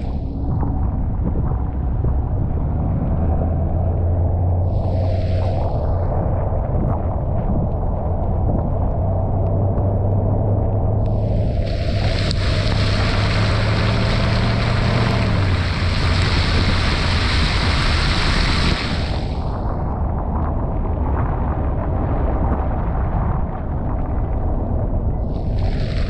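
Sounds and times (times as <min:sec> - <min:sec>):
low engine drone: 0:00.0 - 0:26.0
wet tyre noise: 0:00.0 - 0:26.0
wind hissing on microphone: 0:00.0 - 0:26.0.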